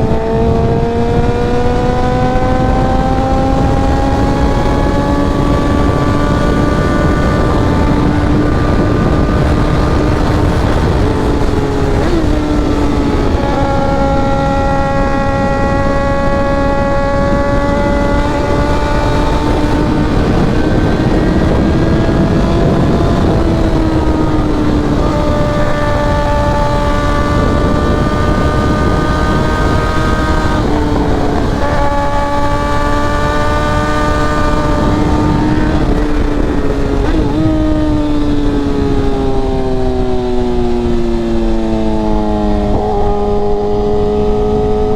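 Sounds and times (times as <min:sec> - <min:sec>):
heavy wind rush: 0:00.0 - 0:44.9
motorcycle engine at high revs: 0:00.0 - 0:44.9.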